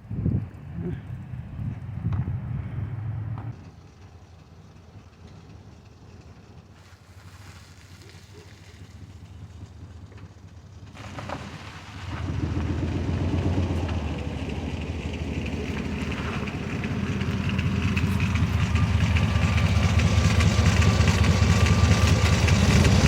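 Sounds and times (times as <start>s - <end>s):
van engine running: 0.1s - 23.0s.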